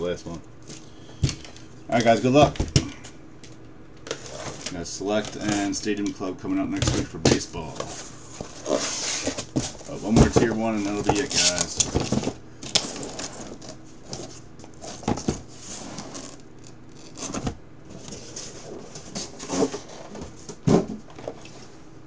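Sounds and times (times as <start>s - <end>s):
cardboard and plastic wrap rustling: 0.3s - 3.0s, 4.0s - 6.0s, 6.7s - 21.8s.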